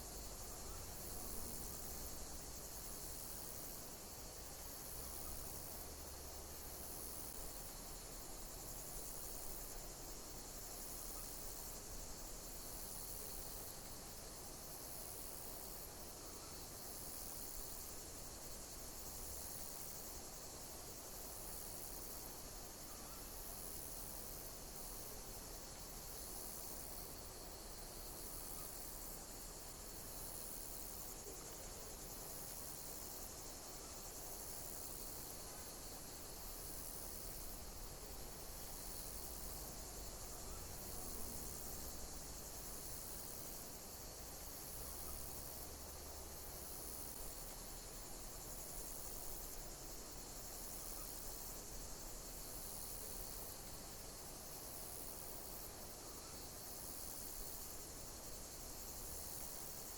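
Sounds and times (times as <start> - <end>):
high-pitched insect call: 0.0 - 59.9
hiss of insects: 0.0 - 59.9.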